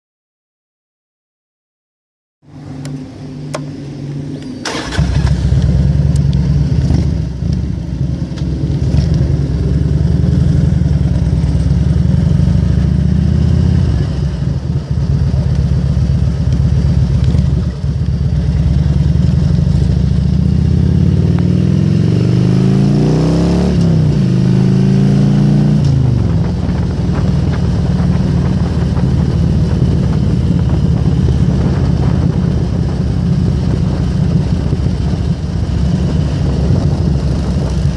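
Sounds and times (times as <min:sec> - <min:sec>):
motorcycle engine rumbling: 0:02.4 - 0:37.9.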